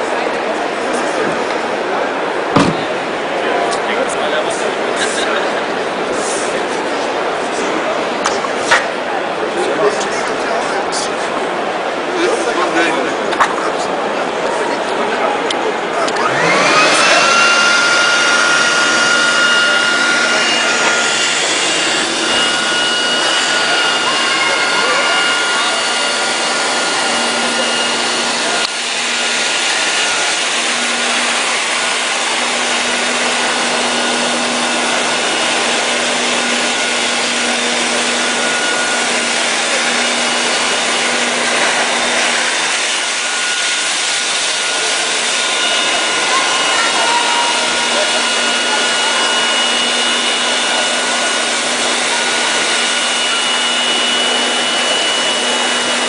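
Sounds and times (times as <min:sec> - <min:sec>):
floor scrubber motors running: 0:00.0 - 0:56.0.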